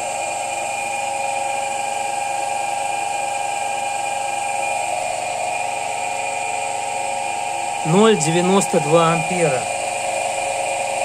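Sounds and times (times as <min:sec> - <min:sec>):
machine whine with hum: 0:00.0 - 0:11.0.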